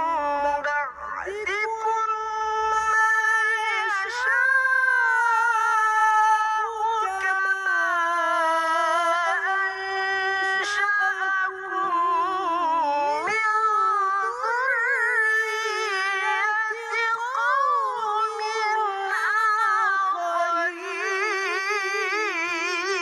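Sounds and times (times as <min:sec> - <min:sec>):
male voice chanting: 0:00.0 - 0:23.0.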